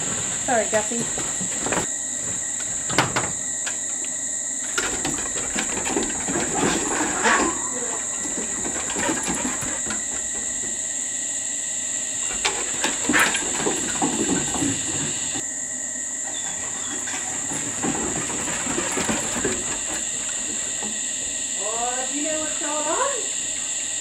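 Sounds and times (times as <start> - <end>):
rustles and knocks: 0.0 - 11.2, 12.2 - 15.4, 16.3 - 21.5
crickets calling: 0.0 - 24.0.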